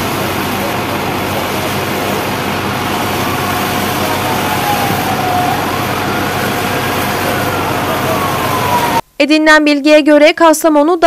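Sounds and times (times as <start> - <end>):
emergency siren wailing: 0.0 - 9.0
steady rushing noise: 0.0 - 9.0.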